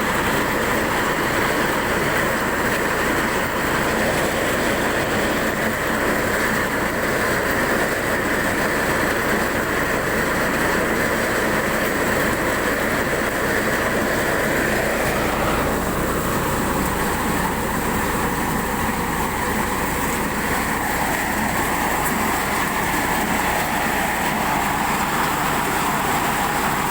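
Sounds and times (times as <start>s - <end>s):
harvester engine and machinery: 0.0s - 26.9s.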